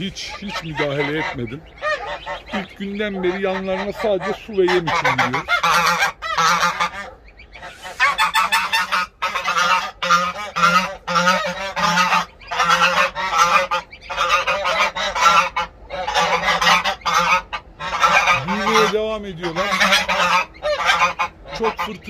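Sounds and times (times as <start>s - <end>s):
geese honking: 0.0s - 22.0s.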